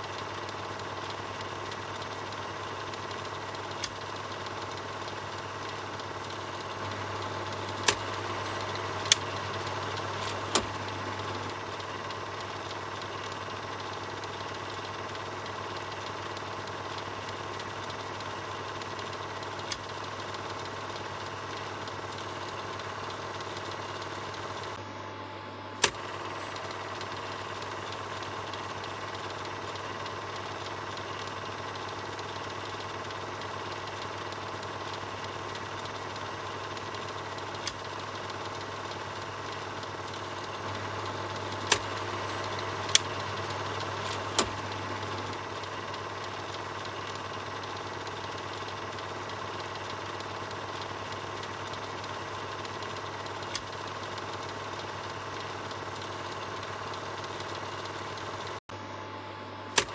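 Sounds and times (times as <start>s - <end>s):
sharp projector clicks: 0.0s - 24.8s, 25.8s - 58.6s
film projector running: 0.0s - 59.9s.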